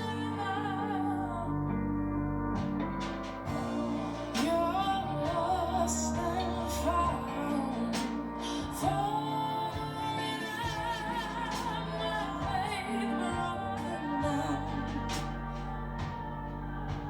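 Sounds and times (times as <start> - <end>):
woman singing: 0.0 - 2.8, 3.5 - 17.0
soft instrumental backing: 0.0 - 17.0.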